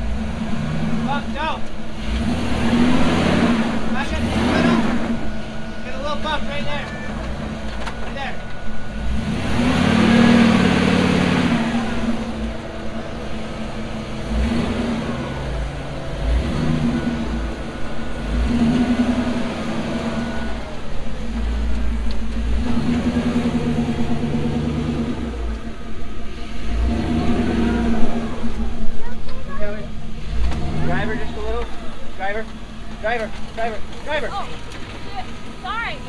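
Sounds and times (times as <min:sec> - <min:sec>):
low rumble: 0:00.0 - 0:34.0
buggy engine revving: 0:00.0 - 0:36.0.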